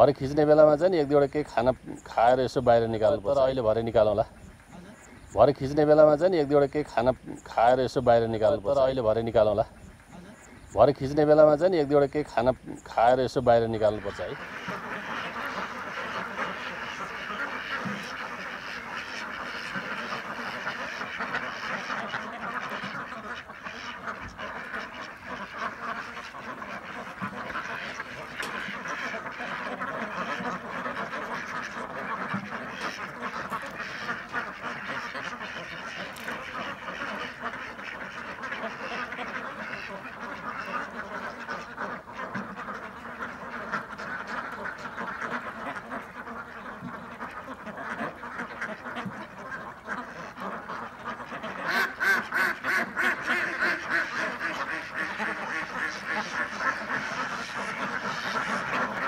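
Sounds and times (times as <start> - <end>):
ducks quacking: 0.0 - 59.0.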